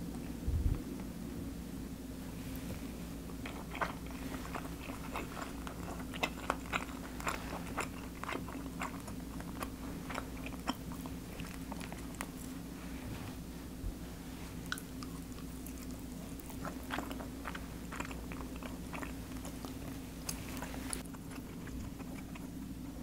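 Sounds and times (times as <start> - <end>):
faint low hum: 0.0 - 23.0
person chewing food: 2.5 - 13.0, 14.5 - 23.0.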